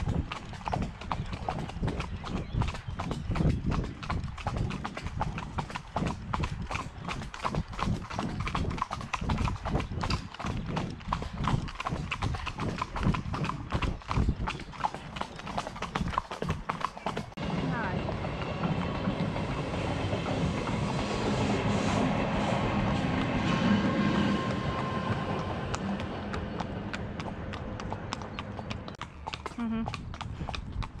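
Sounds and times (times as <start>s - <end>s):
horse hooves on gravel: 0.0s - 21.3s, 22.7s - 31.0s.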